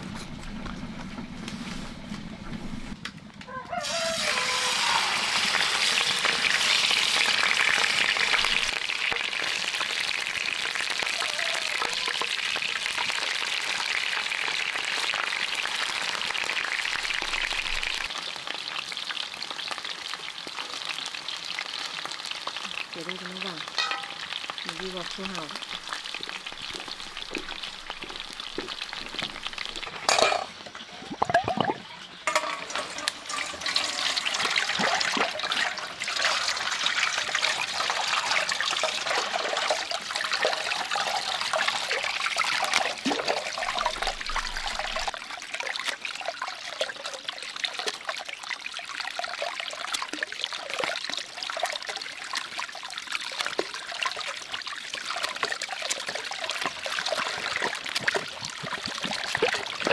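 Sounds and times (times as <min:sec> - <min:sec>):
water running and splashing: 0:03.7 - 0:59.9.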